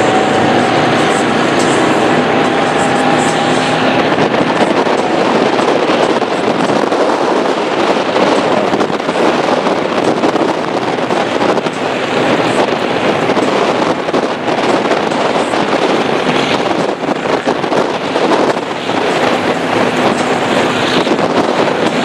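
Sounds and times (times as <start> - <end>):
hull on water: 0.0 - 22.0
powerboat engine: 0.0 - 22.0
wind rush on microphone: 0.0 - 22.0.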